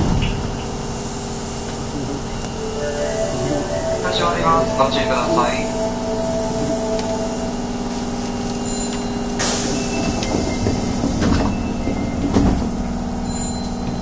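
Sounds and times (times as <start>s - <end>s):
train electrical hum: 0.0s - 14.0s.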